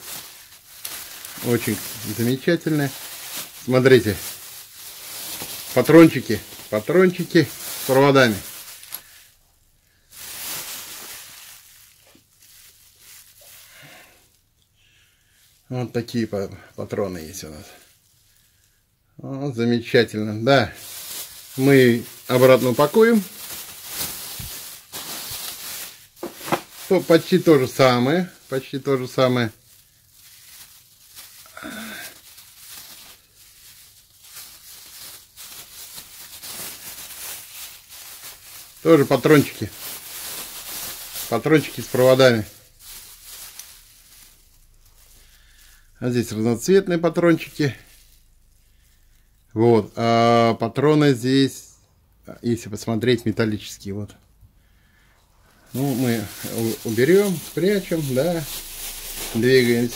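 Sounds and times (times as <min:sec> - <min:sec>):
plastic bag crinkling: 0:00.0 - 0:18.7, 0:19.8 - 0:50.0, 0:55.5 - 0:59.9.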